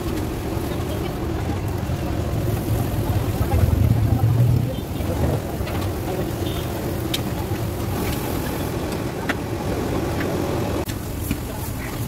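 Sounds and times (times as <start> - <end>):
gas burner rumble: 0.0 - 12.0.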